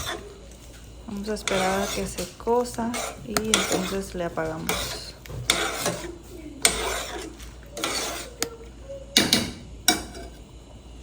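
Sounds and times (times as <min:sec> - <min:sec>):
pots and utensils scraping and clacking: 0:00.0 - 0:10.5.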